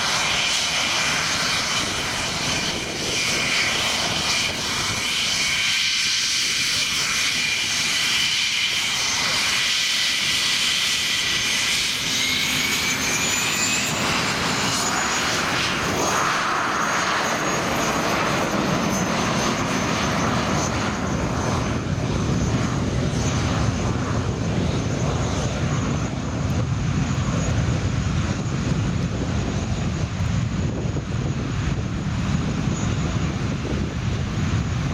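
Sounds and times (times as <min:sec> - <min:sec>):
jet engines whining: 0:00.0 - 0:34.9
rushing jet noise: 0:00.0 - 0:34.9.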